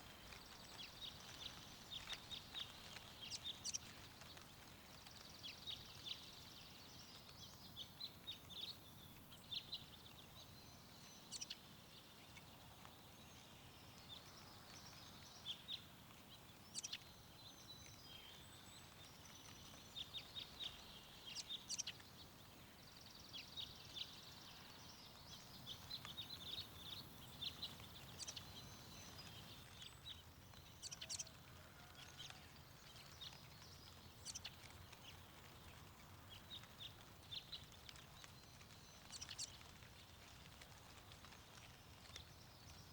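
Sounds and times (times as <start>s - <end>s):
faint wind: 0.0s - 42.9s
songbirds chirping: 0.0s - 42.9s.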